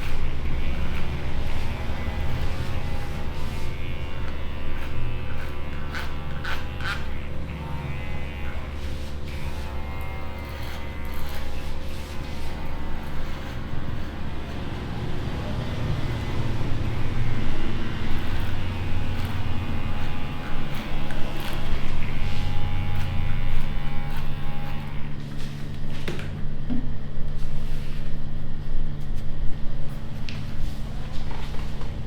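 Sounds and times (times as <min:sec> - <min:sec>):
electric hair clippers buzzing: 0:00.0 - 0:26.4.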